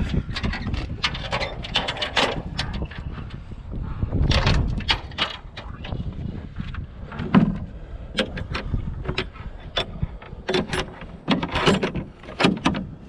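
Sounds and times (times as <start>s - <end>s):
scrap metal clanking and rattling: 0.0s - 3.4s, 4.2s - 12.9s.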